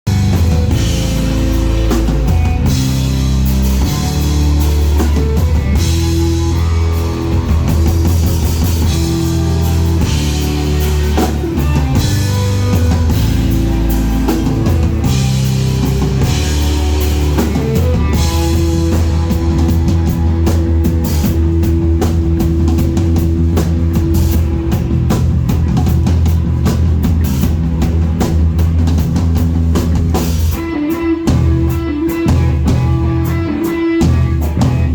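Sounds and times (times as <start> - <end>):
live rock band: 0.1 - 34.9.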